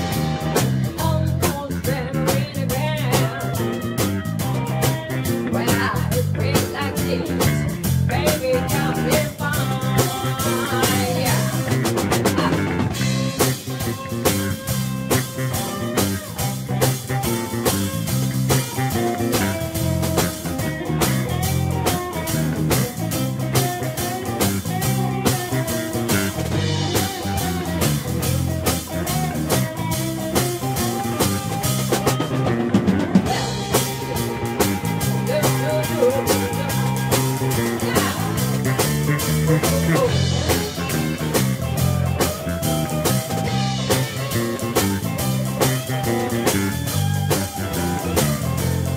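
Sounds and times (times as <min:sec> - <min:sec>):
drum kit: 0:00.0 - 0:48.9
electric guitar: 0:00.0 - 0:48.9
live blues-rock band: 0:00.0 - 0:48.9.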